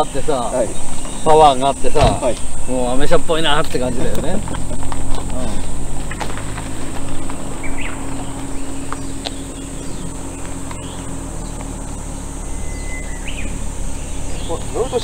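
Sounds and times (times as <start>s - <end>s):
bird chirps: 0.0s - 15.0s
insects chorus: 0.0s - 15.0s
low rumble: 0.7s - 15.0s.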